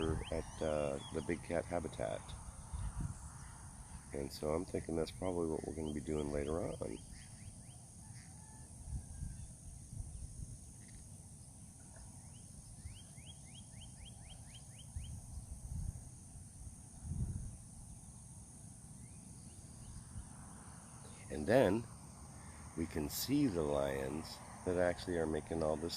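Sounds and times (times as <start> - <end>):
insect buzzing: 0.0 - 25.9.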